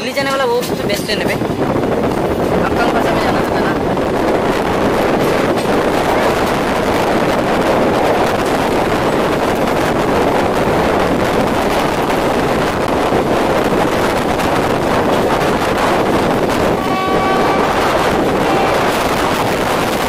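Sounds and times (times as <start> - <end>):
train rumbling: 0.0 - 20.0
wind buffeting microphone: 0.0 - 20.0.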